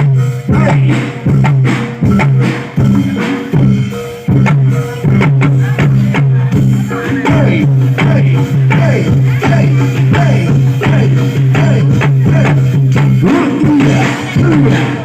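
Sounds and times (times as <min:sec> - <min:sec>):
melody line: 0:00.0 - 0:14.4
drums and struck percussion: 0:00.0 - 0:15.0.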